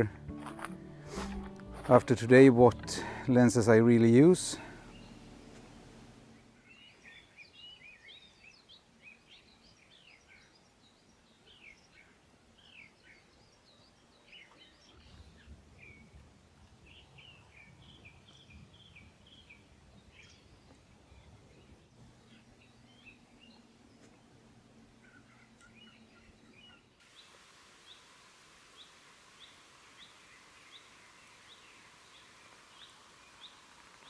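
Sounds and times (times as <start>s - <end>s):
songbirds chirping: 0.0s - 28.0s, 28.7s - 34.0s.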